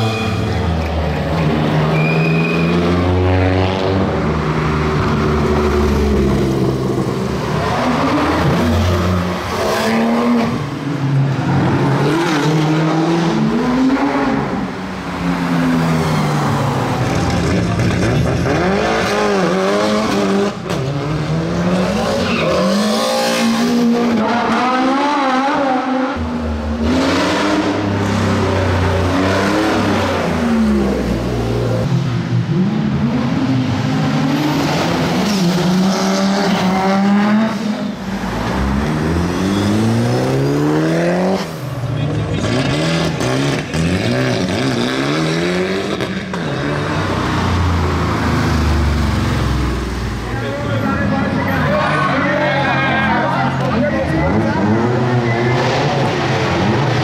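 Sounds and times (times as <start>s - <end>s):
car engines revving and accelerating: 0.0s - 57.0s.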